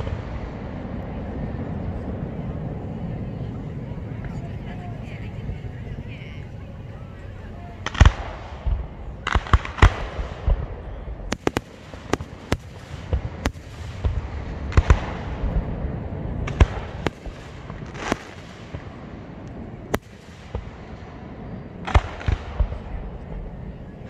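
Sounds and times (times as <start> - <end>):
low rumble of bursts: 0.0 - 24.0.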